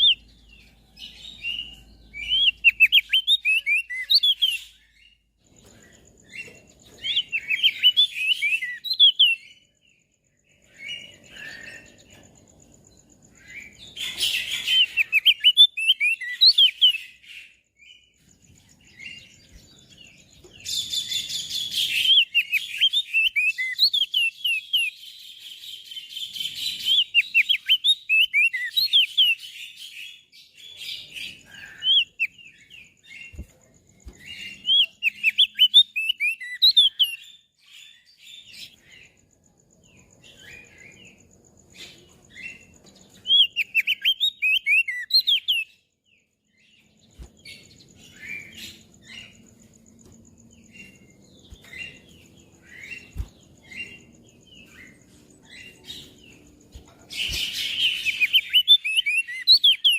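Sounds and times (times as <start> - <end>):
bird twittering song: 0.0 - 59.9
soft bird chirps: 0.0 - 59.9.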